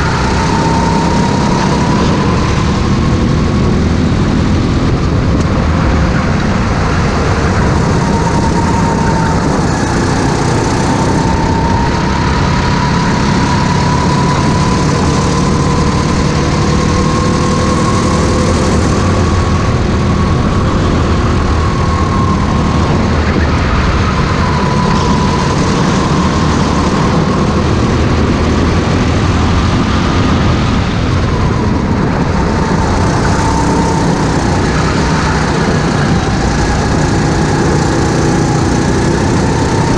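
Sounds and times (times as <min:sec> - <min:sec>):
go-kart engine running hard: 0:00.0 - 0:39.9
low rumble: 0:00.0 - 0:39.9.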